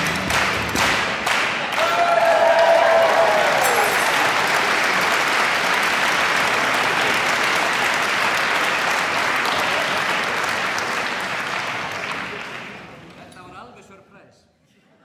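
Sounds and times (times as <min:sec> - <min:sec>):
audience applause: 0:00.0 - 0:13.1.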